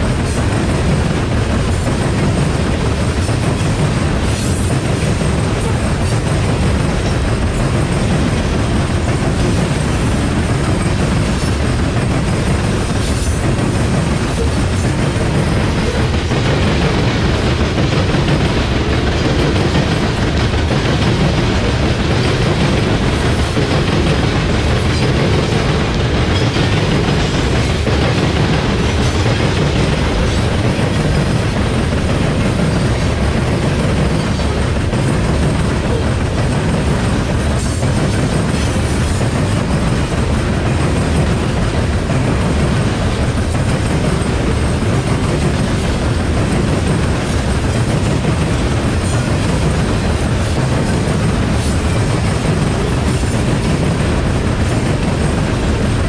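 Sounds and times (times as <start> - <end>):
train cars rumbling on rails: 0.0 - 56.0.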